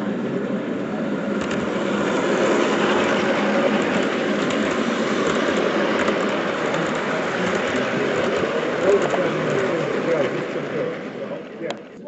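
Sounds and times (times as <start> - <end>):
train rolling on track: 0.0 - 12.0
wheels clicking over rails: 0.2 - 12.0.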